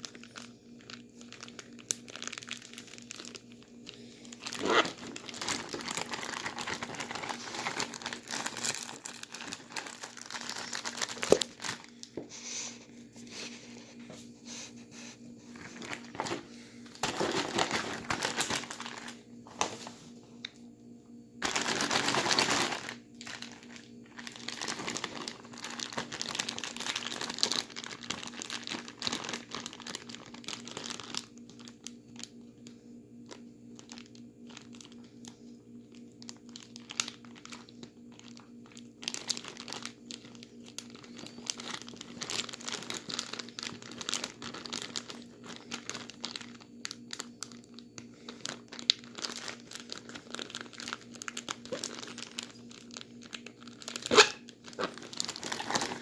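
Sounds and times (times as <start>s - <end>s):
plastic bags crinkling: 0.0s - 12.3s, 15.4s - 20.0s, 21.4s - 56.0s.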